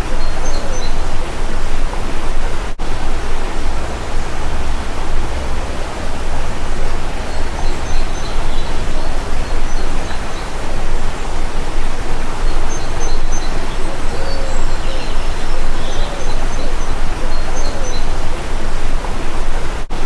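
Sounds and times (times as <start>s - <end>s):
high bird chirps: 0.0s - 19.6s
stream water rushing: 0.0s - 20.0s.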